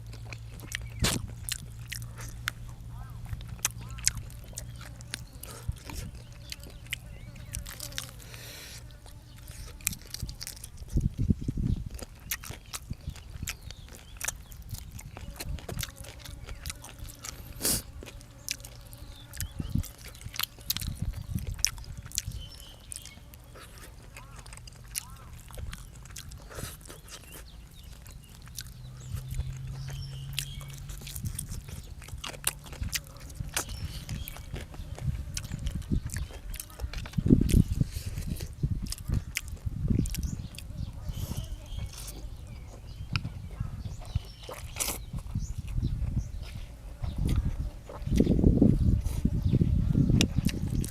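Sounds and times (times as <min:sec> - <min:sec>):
chewing and biting: 0:00.0 - 0:50.9.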